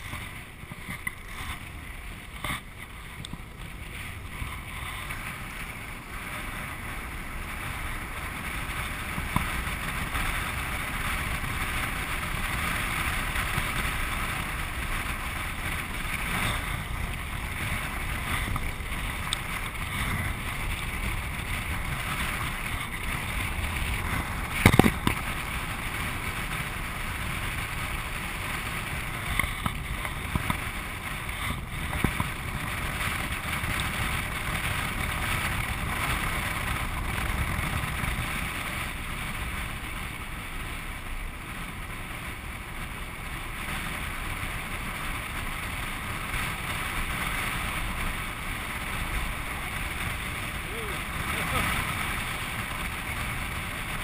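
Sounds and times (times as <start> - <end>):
low rumble of moving craft: 0.0 - 54.0
wind rushing over microphone: 0.0 - 54.0.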